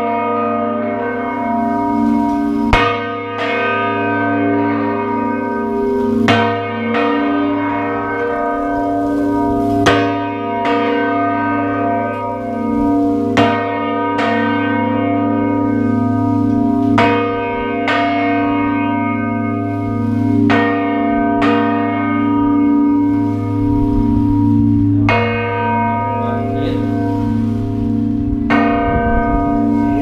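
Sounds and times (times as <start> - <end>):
large bells ringing: 0.0 - 30.0
low bell hum: 0.0 - 30.0.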